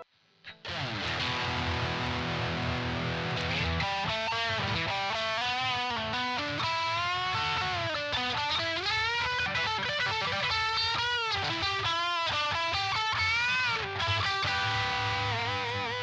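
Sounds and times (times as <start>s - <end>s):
electric guitar with bent notes: 0.0s - 16.0s.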